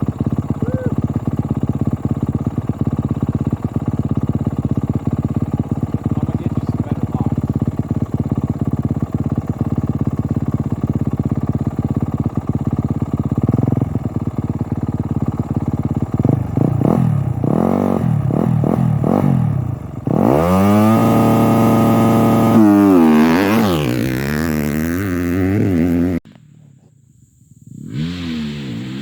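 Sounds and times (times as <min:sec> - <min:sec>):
motocross bike engine revving: 0:00.0 - 0:26.8, 0:27.7 - 0:29.0.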